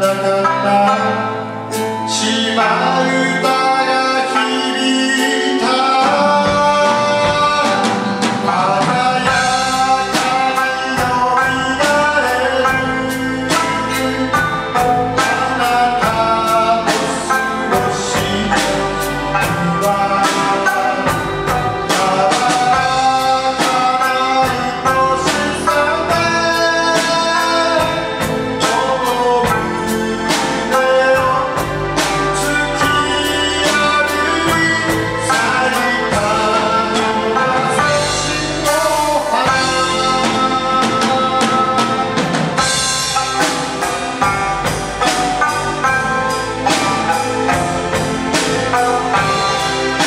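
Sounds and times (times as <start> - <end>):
live band playing: 0.0 - 50.0
person singing: 0.0 - 50.0
drum beat: 6.2 - 50.0.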